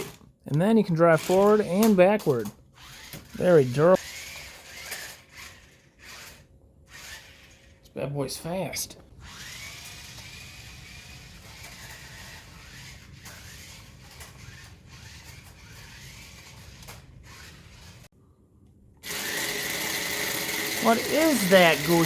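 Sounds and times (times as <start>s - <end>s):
toy car electric motors whirring: 1.0s - 7.8s, 9.2s - 18.1s, 19.0s - 22.0s.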